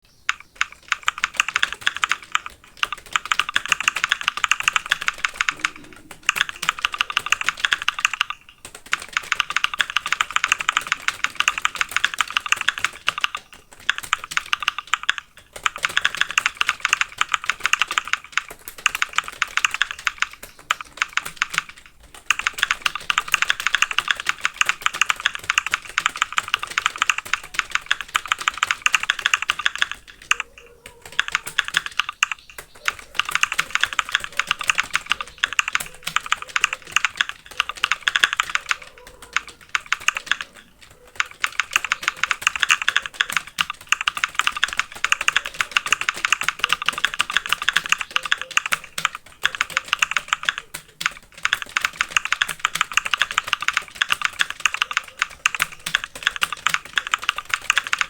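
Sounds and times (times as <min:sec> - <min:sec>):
fast typing on a keyboard: 0:00.2 - 0:58.0.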